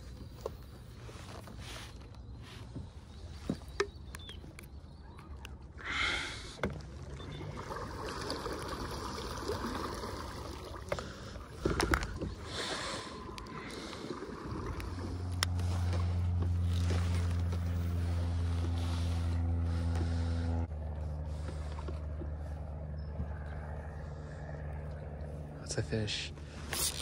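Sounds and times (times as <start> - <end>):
water sloshing along kayak hull: 0.0 - 25.6.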